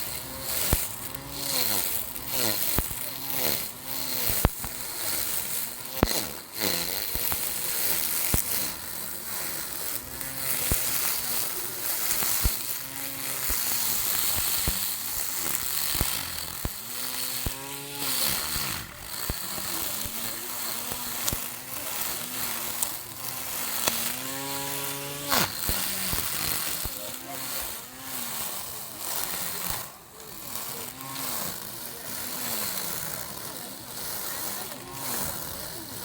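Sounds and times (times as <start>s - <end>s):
lawn mower motor whining: 0.0s - 36.0s.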